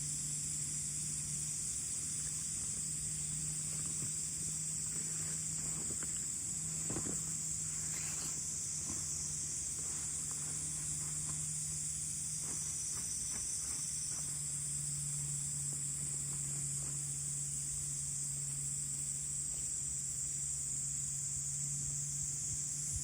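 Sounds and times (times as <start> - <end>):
insects trilling: 0.0 - 23.0
low steady hum: 0.0 - 23.0.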